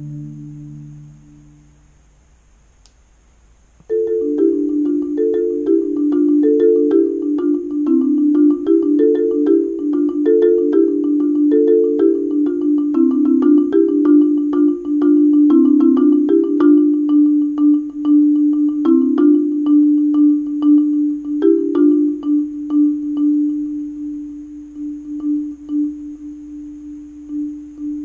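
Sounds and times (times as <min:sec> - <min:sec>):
marimba playing: 0:00.0 - 0:01.6, 0:03.9 - 0:28.0.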